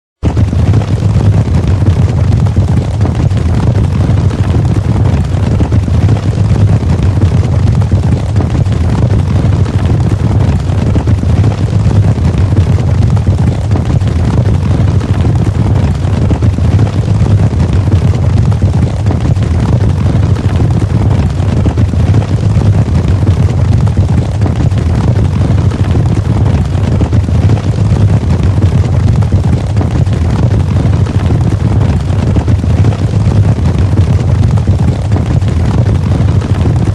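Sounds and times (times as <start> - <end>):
galloping horse hoofbeats: 0.2 - 36.9.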